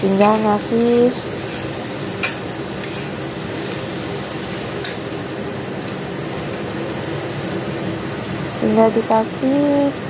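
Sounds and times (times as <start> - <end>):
vegetables sizzling in a wok: 0.0 - 10.0.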